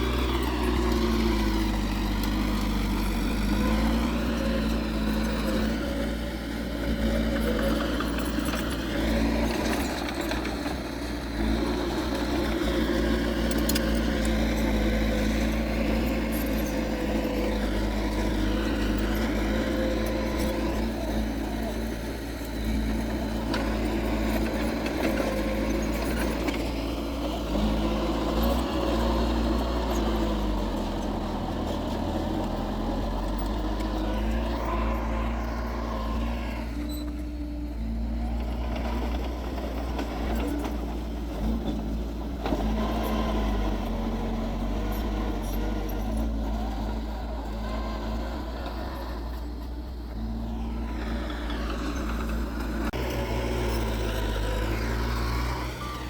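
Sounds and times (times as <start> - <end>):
diesel engines of earthmoving machinery: 0.0 - 56.0.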